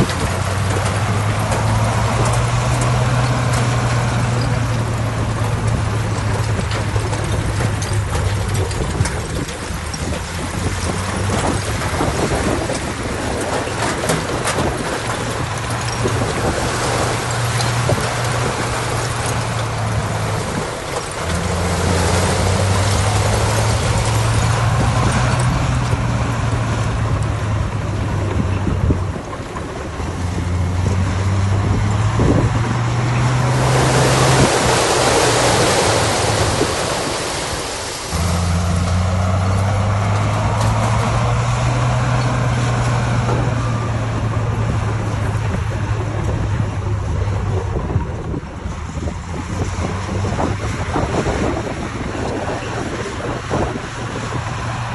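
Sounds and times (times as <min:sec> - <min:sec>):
broad rushing noise: 0:00.0 - 0:54.9
diesel machinery engine: 0:00.0 - 0:54.9.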